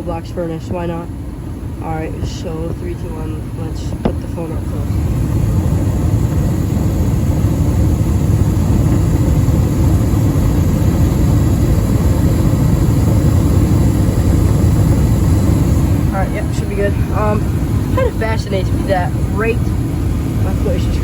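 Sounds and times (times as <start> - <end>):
gas burner flames rumbling: 0.0 - 21.0.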